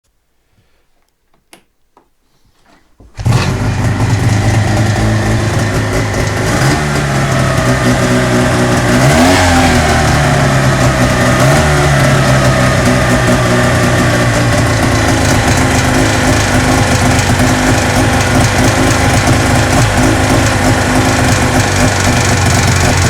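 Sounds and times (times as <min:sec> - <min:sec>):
car engine starting and revving: 0:03.1 - 0:23.0.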